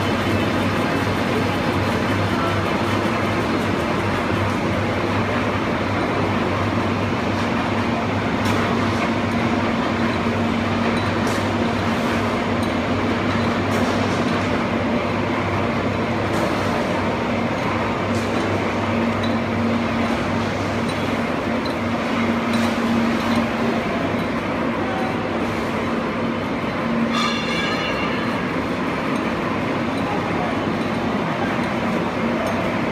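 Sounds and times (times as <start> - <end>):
machinery running: 0.0 - 32.9.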